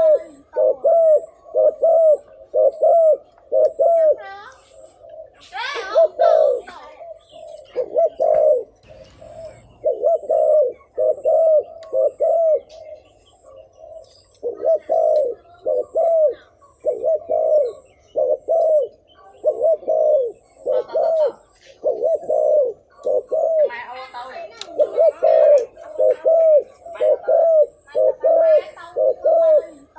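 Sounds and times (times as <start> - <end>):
dove cooing: 0.0 - 29.9.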